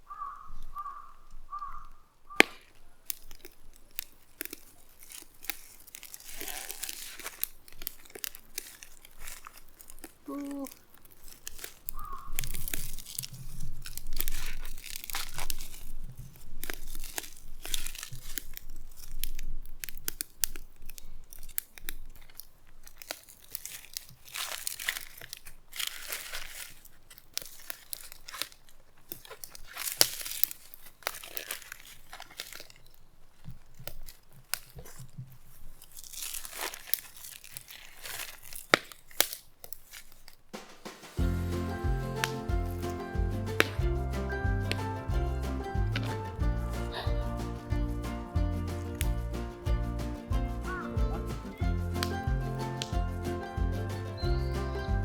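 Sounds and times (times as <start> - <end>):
corn husks tearing and crinkling: 0.1 - 55.0.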